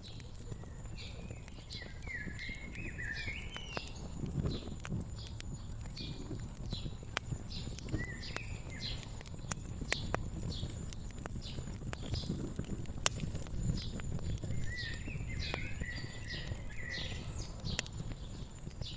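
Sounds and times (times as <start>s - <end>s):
songbird singing: 0.0s - 18.9s
wood fire crackling and popping: 0.0s - 18.9s.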